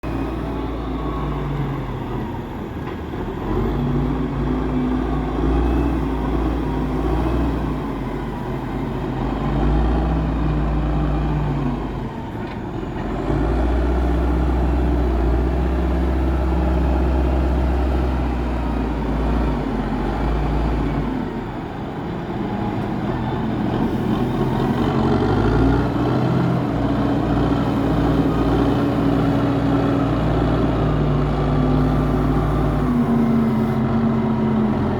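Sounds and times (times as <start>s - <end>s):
heavy engine revving: 0.0s - 34.9s.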